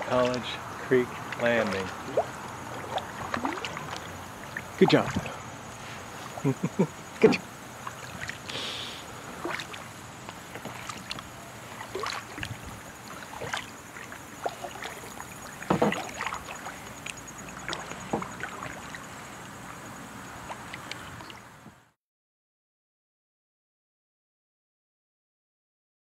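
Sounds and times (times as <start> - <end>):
kayak paddle splashing water: 0.1 - 21.6.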